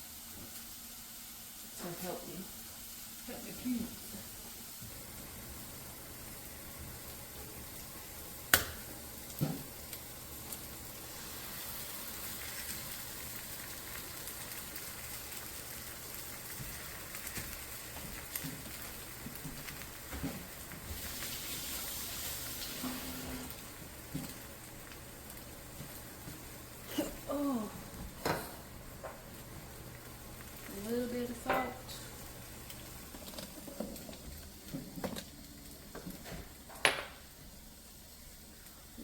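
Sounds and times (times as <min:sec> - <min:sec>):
eggs sizzling in a frying pan: 0:00.0 - 0:39.0.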